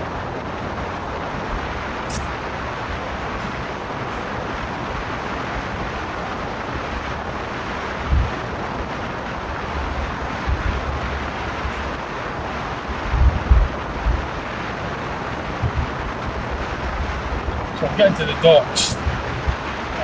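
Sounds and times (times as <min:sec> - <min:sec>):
car road and wind noise: 0:00.0 - 0:20.0
wind buffeting on microphone: 0:00.0 - 0:20.0.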